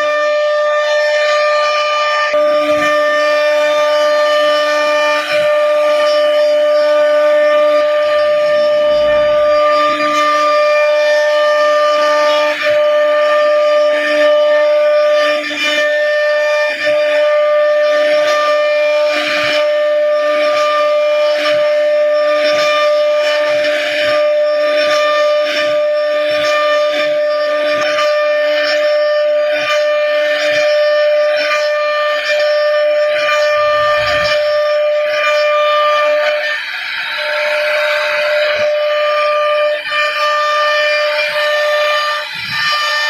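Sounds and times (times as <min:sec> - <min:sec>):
bit cutting wood: 0:00.0 - 0:43.0
router spindle whine: 0:00.0 - 0:43.0.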